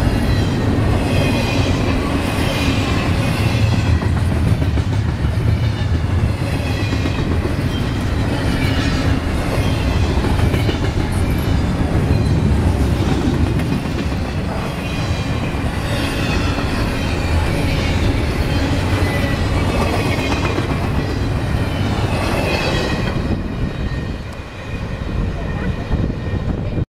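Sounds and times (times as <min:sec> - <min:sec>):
train wheels rumbling on rails: 0:00.0 - 0:26.8.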